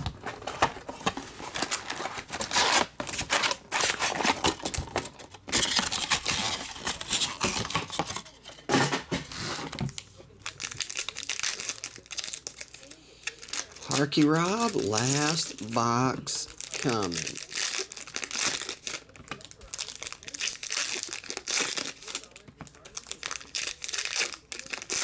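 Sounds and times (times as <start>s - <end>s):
foil packs crinkling: 0.0s - 8.4s, 9.6s - 25.0s.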